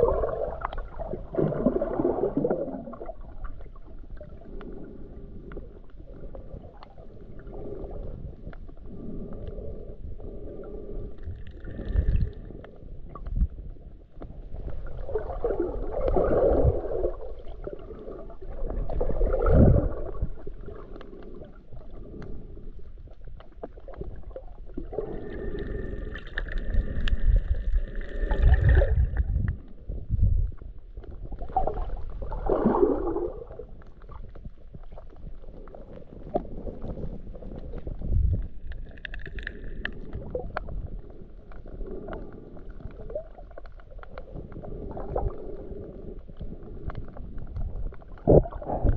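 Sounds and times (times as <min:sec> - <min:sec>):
low underwater rumble: 0:00.0 - 0:48.9
water moving against camera: 0:00.0 - 0:48.9.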